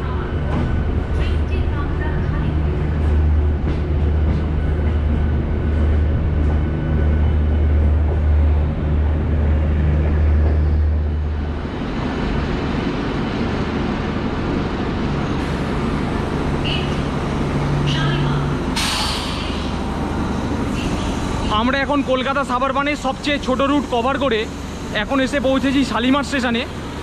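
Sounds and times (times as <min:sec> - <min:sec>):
train coaches rumbling: 0:00.0 - 0:27.0.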